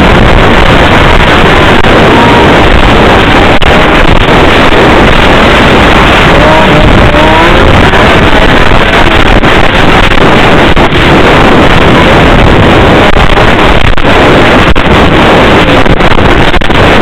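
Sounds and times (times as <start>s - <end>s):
snowmobile engine running: 0.0s - 17.0s
wind rushing over microphone: 0.0s - 17.0s.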